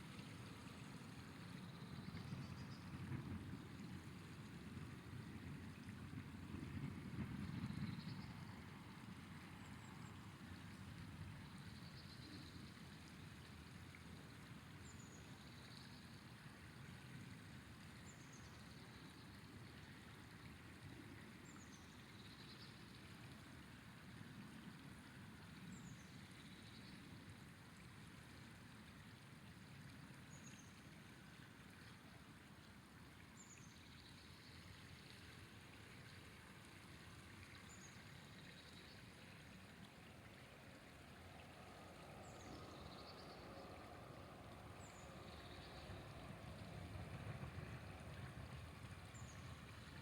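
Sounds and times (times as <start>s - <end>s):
river flowing: 0.0s - 50.0s.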